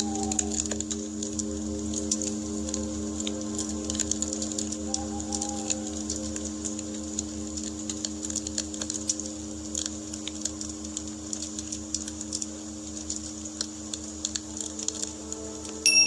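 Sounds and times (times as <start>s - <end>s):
campfire crackling: 0.0s - 15.9s.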